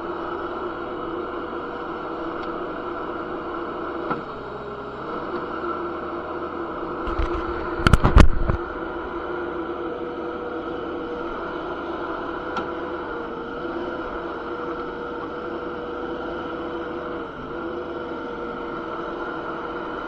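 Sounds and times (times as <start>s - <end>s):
skid steer running: 0.0s - 20.0s.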